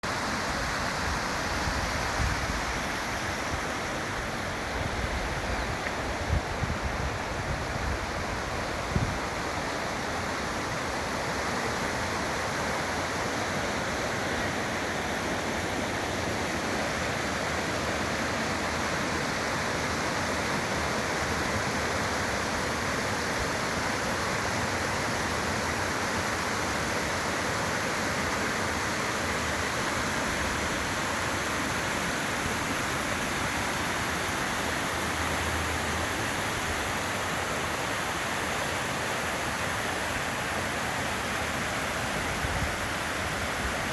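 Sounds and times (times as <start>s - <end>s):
waterfall pouring over rocks: 0.0s - 43.9s.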